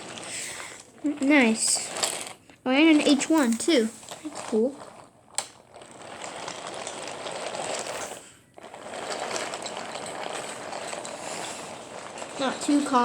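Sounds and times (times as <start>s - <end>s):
toy train rolling on wooden track: 0.0s - 13.0s.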